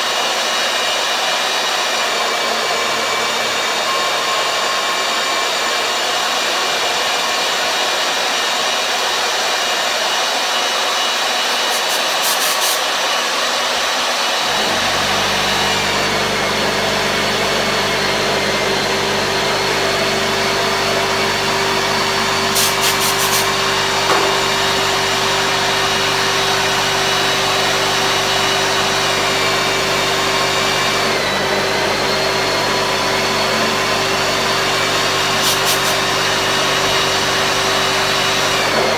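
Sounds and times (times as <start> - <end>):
drill press motor whining: 0.0 - 38.9.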